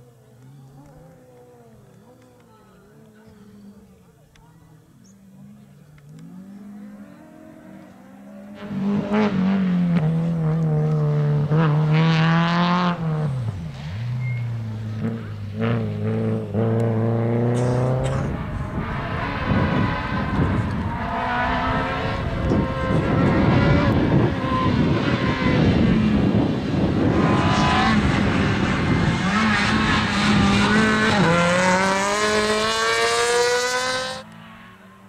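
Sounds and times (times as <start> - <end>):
tyre and road noise: 0.0 - 35.0
rally car engine revving: 5.4 - 35.0.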